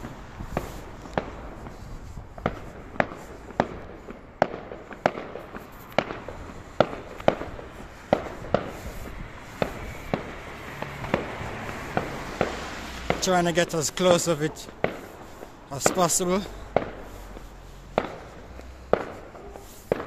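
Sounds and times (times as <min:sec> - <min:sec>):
fireworks banging: 0:00.0 - 0:20.0.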